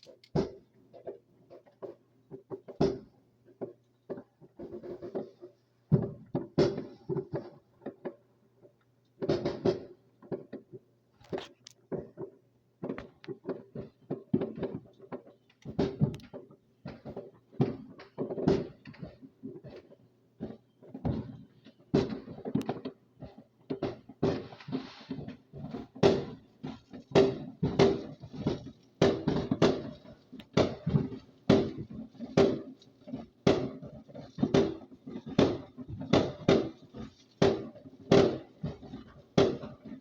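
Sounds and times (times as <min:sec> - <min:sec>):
fireworks popping and banging: 0:00.0 - 0:40.0.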